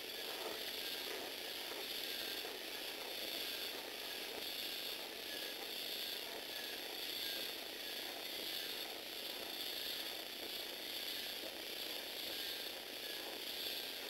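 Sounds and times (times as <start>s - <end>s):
toy robot motor and gears whirring: 0.0s - 14.0s.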